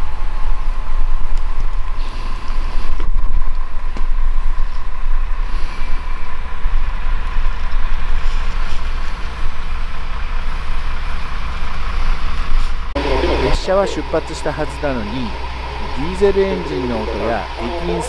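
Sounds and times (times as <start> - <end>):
diesel engine idling: 0.0 - 18.0
thin steady whine: 0.0 - 18.0.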